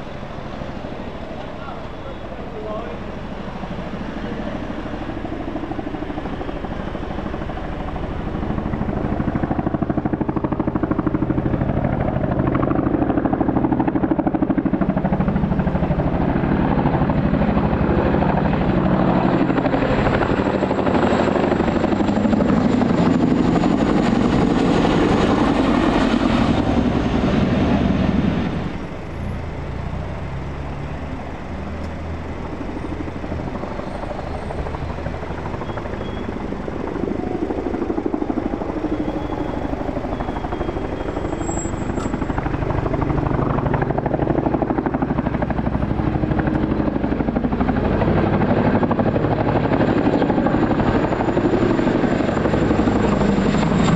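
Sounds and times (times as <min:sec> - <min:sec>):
faint high turbine whine: 0:00.0 - 0:53.9
helicopter rotors thudding: 0:00.0 - 0:53.9.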